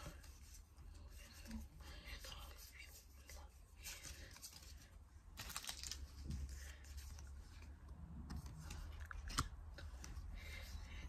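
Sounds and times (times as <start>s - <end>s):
trading cards rustling and scraping: 0.0s - 10.9s.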